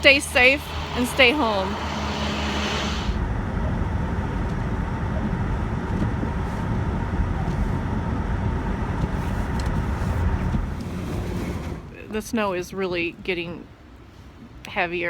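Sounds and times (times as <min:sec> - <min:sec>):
blizzard wind buffeting microphone: 0:00.0 - 0:14.5.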